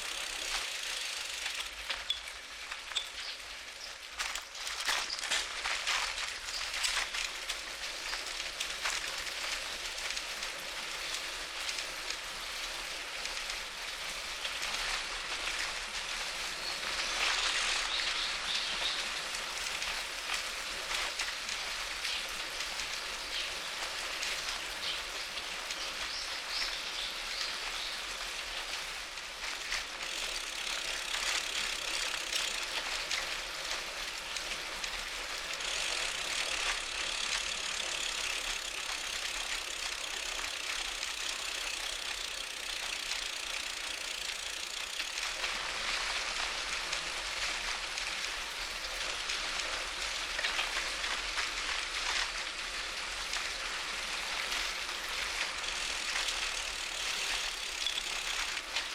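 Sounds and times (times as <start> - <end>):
bicycle tyres rolling on pavement: 0.0 - 58.9.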